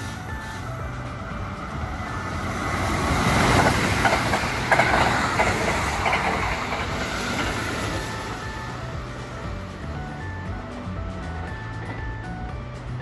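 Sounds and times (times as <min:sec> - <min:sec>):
electric train rumbling past: 0:00.0 - 0:13.0
wheels clacking over rail joints: 0:00.0 - 0:13.0.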